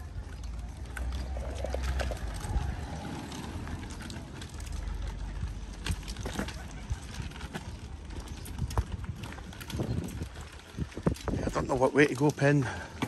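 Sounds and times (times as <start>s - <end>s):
footsteps on pavement: 0.0s - 13.0s.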